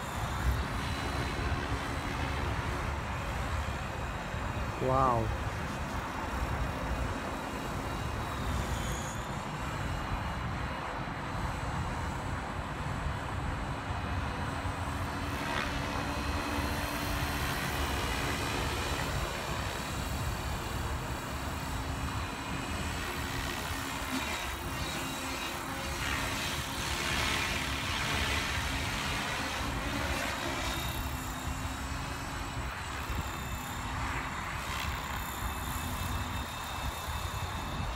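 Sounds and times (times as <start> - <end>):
model helicopter rotor whine: 0.0 - 37.9.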